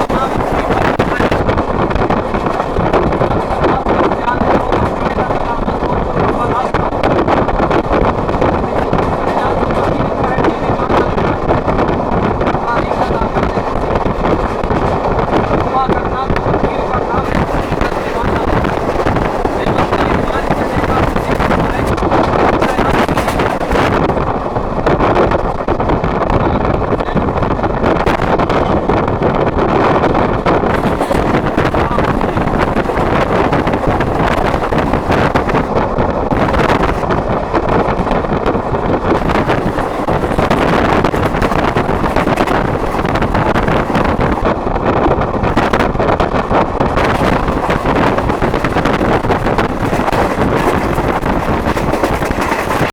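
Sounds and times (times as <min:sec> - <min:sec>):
train rumbling: 0:00.0 - 0:52.9
wind buffeting microphone: 0:00.0 - 0:52.9.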